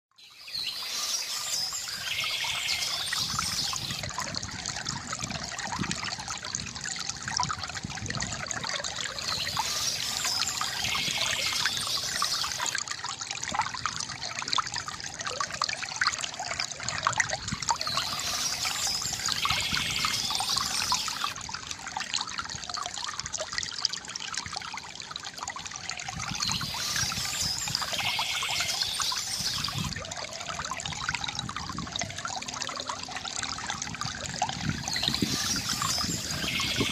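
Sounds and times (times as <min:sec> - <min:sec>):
gurgling river water: 0:00.2 - 0:36.9.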